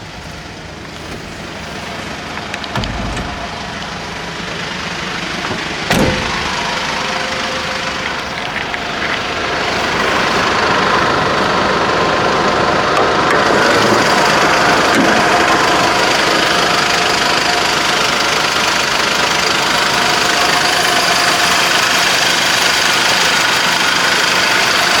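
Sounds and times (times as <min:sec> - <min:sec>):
diesel van engine idling: 0:00.0 - 0:25.0.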